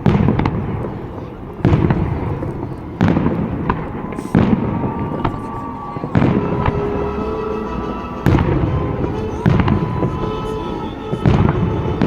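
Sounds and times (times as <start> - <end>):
firework crackling: 0.0 - 12.0
firework shells booming: 0.0 - 12.0
rumbling echoes: 0.0 - 12.0.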